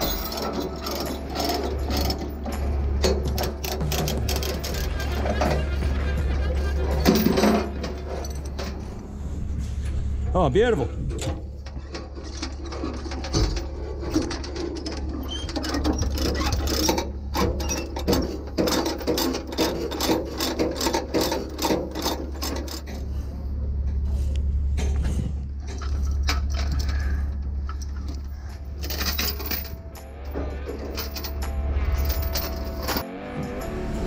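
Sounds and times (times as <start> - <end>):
steel chain rattling: 0.0 - 9.0, 11.0 - 23.2, 25.6 - 33.1
steady low hum: 0.0 - 34.0.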